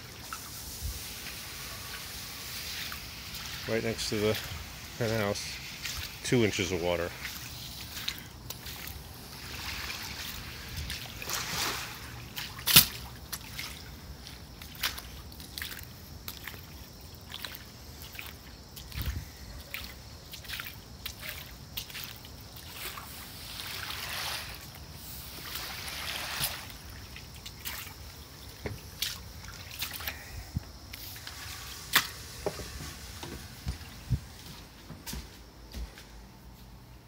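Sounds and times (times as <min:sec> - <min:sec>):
water sloshing: 0:00.0 - 0:35.2
footsteps splashing through water: 0:02.6 - 0:36.7.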